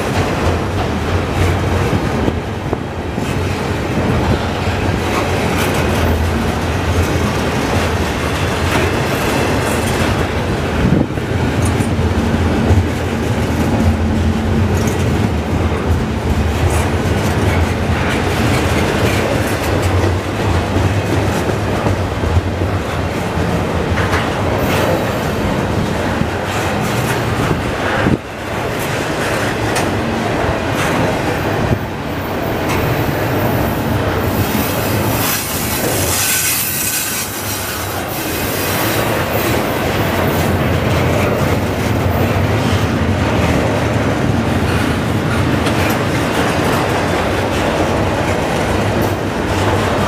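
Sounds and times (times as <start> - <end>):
train wheels rumbling: 0.0 - 50.0
wheels clicking over rail joints: 0.0 - 50.0.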